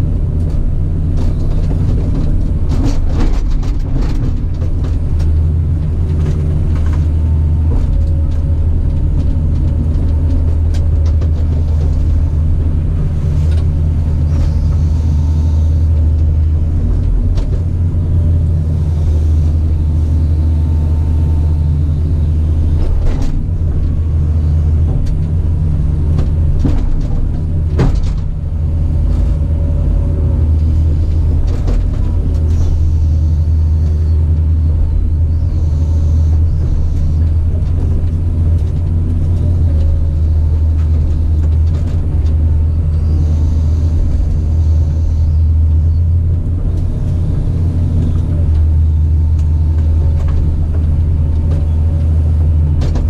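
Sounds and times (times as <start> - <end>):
diesel engine rumbling: 0.0 - 53.0.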